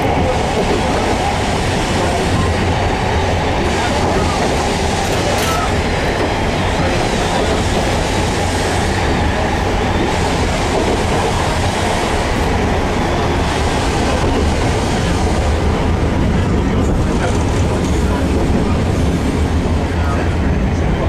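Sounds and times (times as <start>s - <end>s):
tram wheels rumbling on rail: 0.0s - 21.0s.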